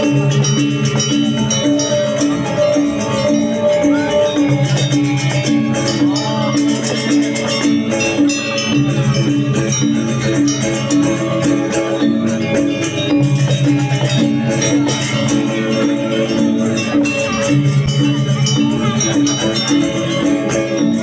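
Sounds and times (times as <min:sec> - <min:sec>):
gamelan ensemble playing: 0:00.0 - 0:21.0.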